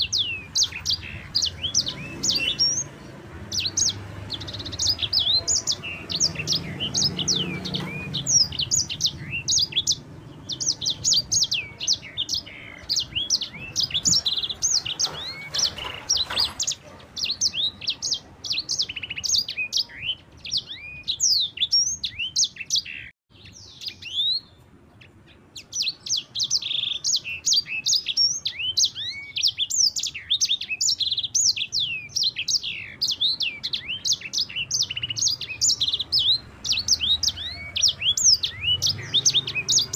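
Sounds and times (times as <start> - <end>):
songbird singing rolling chirps: 0.0 - 39.9.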